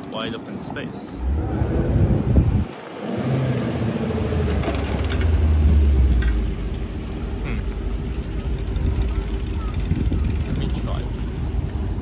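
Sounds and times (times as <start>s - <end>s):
car engine rumbling: 1.1s - 12.0s.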